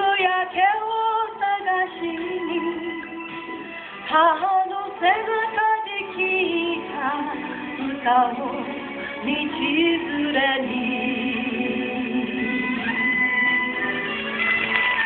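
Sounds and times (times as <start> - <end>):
woman singing a pop ballad: 0.0 - 13.7
instrumental accompaniment: 1.9 - 15.0.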